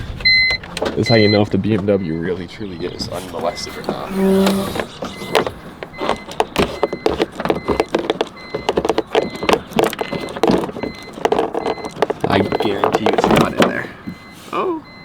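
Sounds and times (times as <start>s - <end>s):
parts rattling and knocking: 0.0s - 2.0s, 2.7s - 14.4s.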